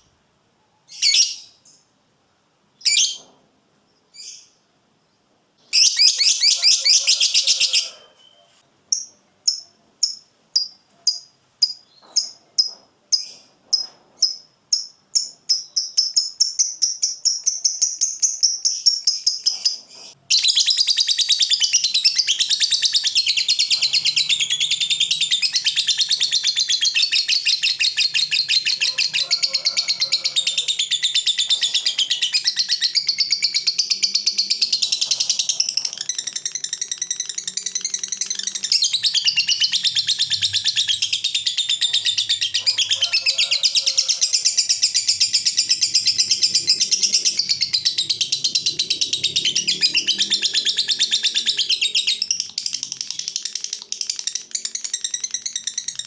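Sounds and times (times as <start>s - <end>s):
bird chirping and trilling: 0.9s - 1.8s, 2.8s - 3.3s, 5.6s - 13.5s, 14.2s - 56.0s.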